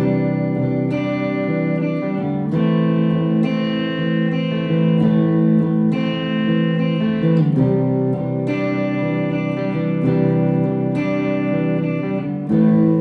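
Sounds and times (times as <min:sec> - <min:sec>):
electric guitar chords ringing: 0:00.0 - 0:13.0.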